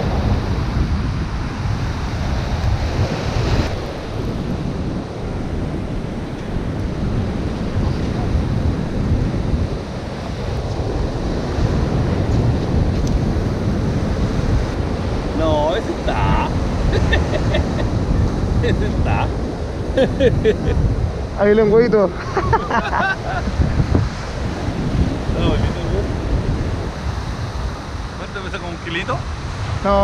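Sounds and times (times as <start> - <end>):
ocean surf washing on beach: 0.0 - 30.0
wind buffeting microphone: 0.0 - 30.0.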